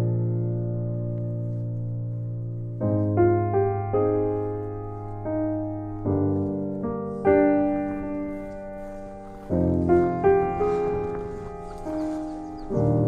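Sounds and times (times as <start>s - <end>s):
slow keyboard chords: 0.0s - 13.0s.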